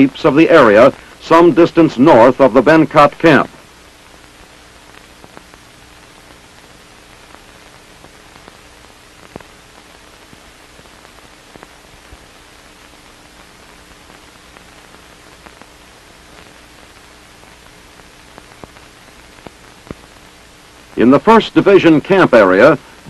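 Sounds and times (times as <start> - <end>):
crackling clicks: 0.0 - 21.7
faint steady hum: 0.0 - 23.0
film soundtrack hiss: 0.0 - 23.0.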